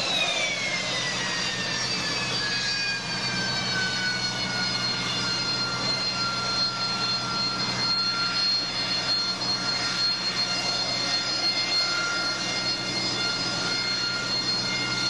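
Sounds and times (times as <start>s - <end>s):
jet engine rush and whine: 0.0s - 15.0s.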